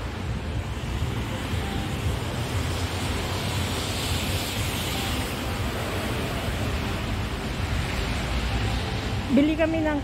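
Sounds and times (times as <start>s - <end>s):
traffic hiss on wet road: 0.0s - 10.0s.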